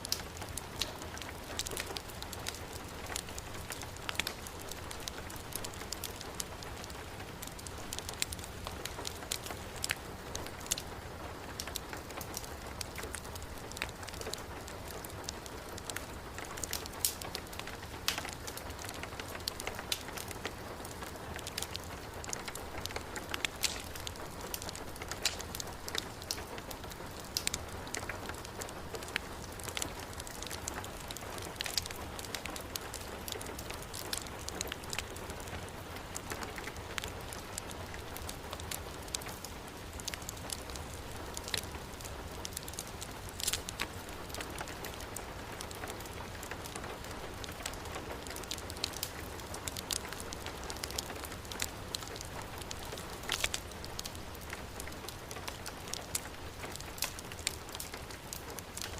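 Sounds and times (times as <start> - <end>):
heavy rain falling: 0.0 - 58.9
wood fire crackling and popping: 0.0 - 58.9.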